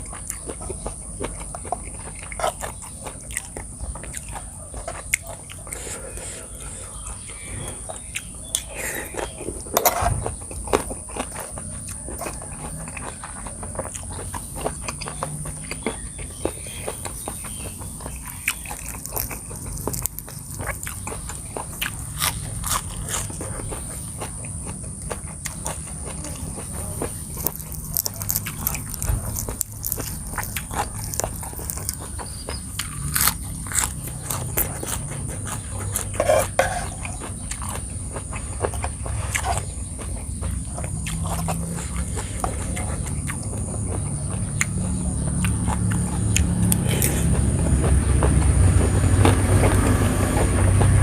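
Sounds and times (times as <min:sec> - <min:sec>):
crunching and wet chewing: 0:00.0 - 0:51.0.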